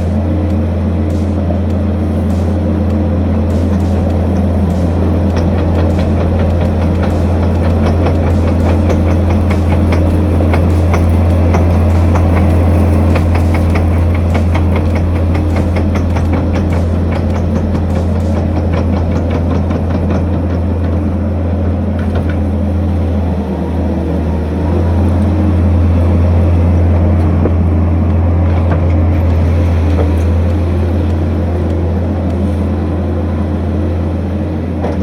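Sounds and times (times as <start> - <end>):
skid steer engine running: 0.0 - 35.0.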